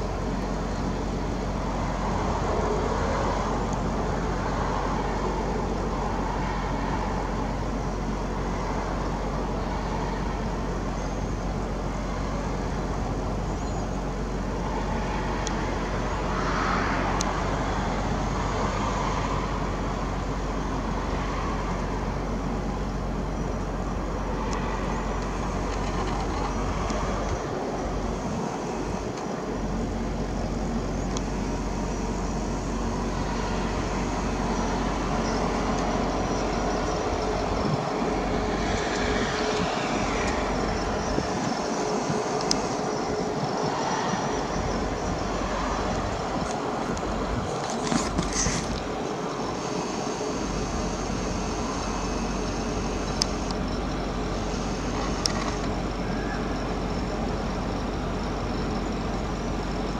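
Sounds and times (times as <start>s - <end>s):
distant engines rumbling: 0.0s - 59.9s.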